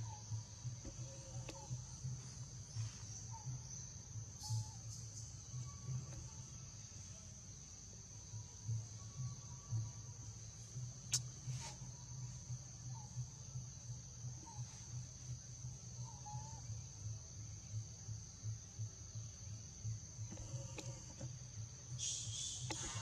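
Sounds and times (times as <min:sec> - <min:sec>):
low pulsing hum: 0:00.0 - 0:23.0.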